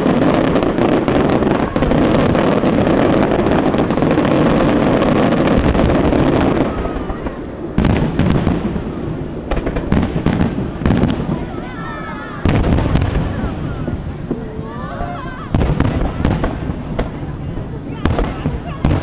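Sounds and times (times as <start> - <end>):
sharp firework bangs: 0.0 - 14.5, 15.4 - 19.0
fireworks bursting and crackling: 0.0 - 19.0.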